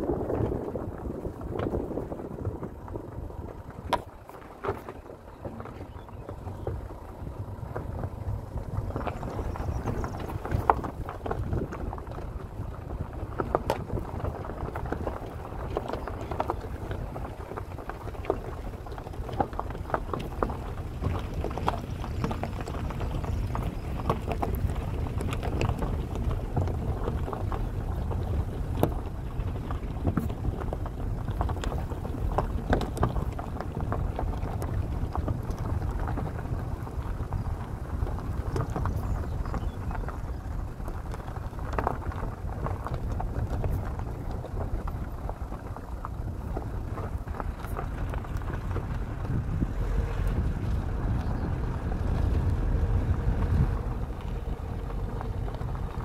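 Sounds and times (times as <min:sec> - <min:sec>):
stones knocking under tyres: 0:00.0 - 0:56.0
vehicle rumbling on gravel: 0:00.0 - 0:56.0.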